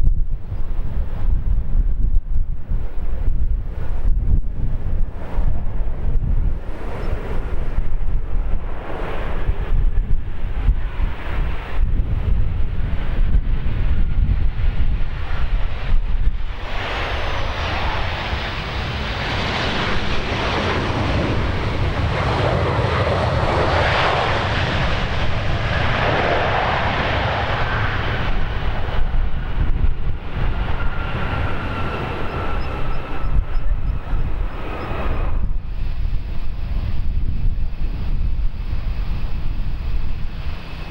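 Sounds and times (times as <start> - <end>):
jet engine whine: 0.0 - 40.9
wind rumbling on microphone: 0.0 - 40.9
jet engines roaring: 4.6 - 40.9.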